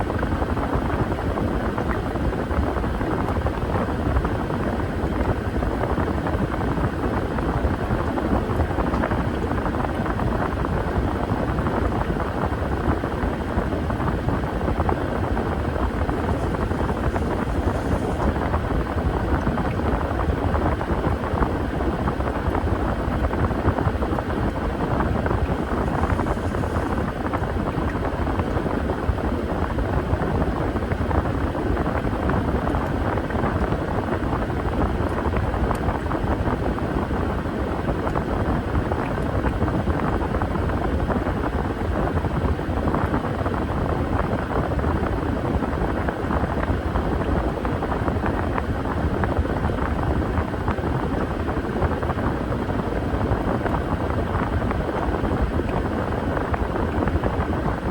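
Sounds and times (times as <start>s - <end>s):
washing machine churning: 0.0s - 57.9s.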